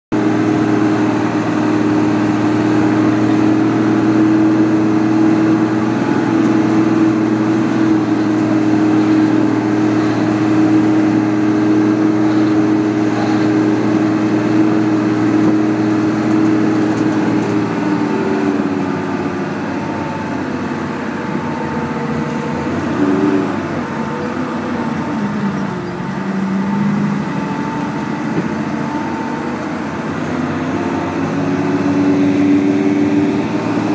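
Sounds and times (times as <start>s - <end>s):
vehicle engine from inside cabin: 0.1s - 33.9s.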